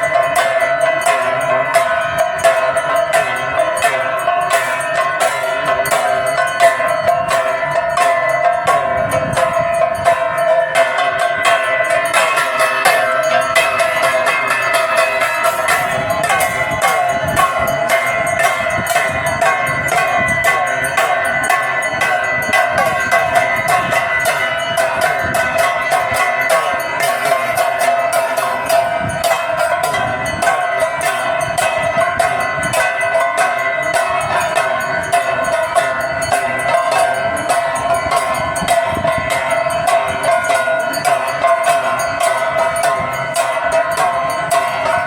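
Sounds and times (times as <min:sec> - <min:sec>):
bells and metal percussion clanging: 0:00.0 - 0:45.0
metallic ringing: 0:00.0 - 0:45.0.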